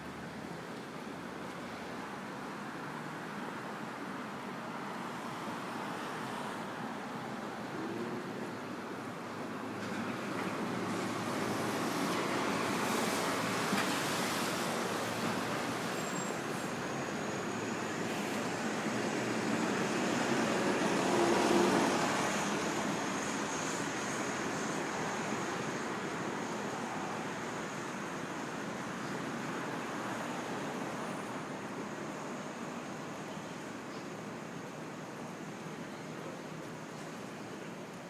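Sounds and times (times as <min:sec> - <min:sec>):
cars passing on city street: 0:00.0 - 0:38.0.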